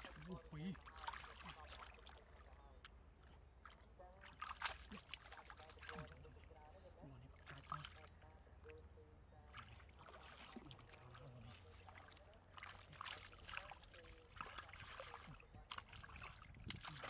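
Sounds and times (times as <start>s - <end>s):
splashing in shallow muddy water: 0.0s - 17.0s.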